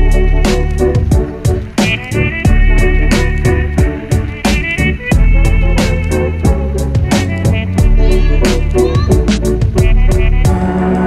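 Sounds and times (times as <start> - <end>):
deep sliding bass drum hits: 0.0 - 10.7
background music with beat: 0.0 - 11.0.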